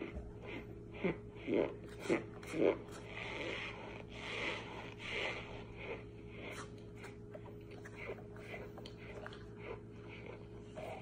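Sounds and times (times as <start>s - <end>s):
mouth chewing crunchy powder: 0.0s - 11.0s.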